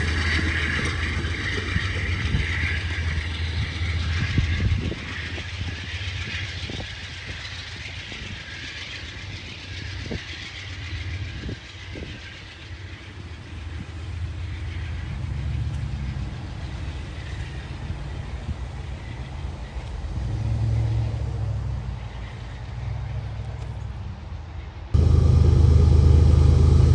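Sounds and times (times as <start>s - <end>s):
train rumbling past: 0.0s - 26.9s
wheels clicking on rails: 0.0s - 26.9s.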